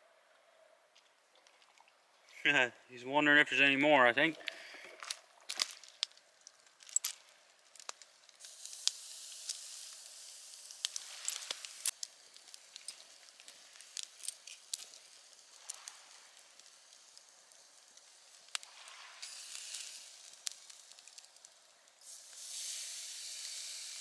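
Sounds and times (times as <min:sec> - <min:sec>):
campfire crackling and popping: 0:00.9 - 0:02.6, 0:03.5 - 0:24.0
steak sizzling: 0:04.3 - 0:24.0.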